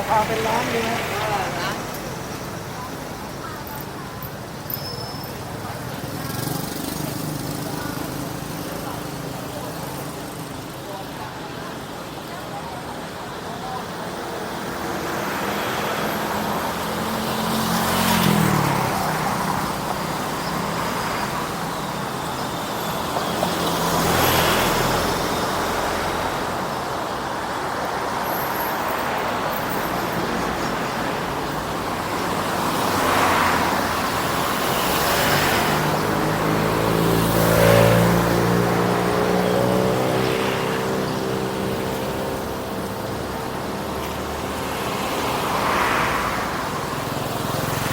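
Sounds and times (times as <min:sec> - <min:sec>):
vehicles passing close by: 0:00.0 - 0:47.9.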